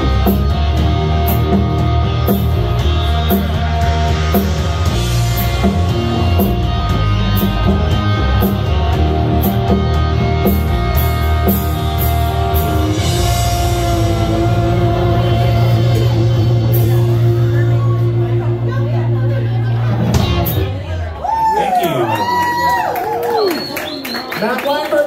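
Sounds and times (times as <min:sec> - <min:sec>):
drum kit: 0:00.0 - 0:21.0
electric guitars: 0:00.0 - 0:23.4.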